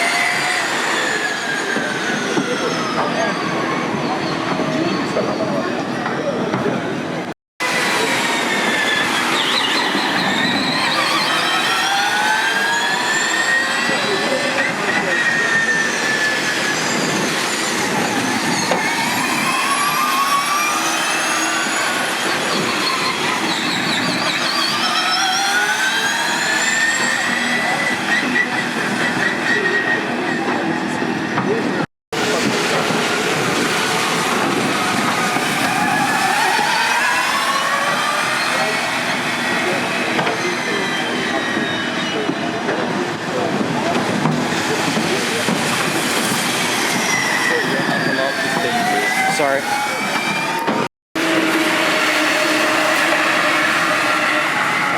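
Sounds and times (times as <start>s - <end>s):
electric race car whine: 7.6s - 31.6s, 32.2s - 54.9s.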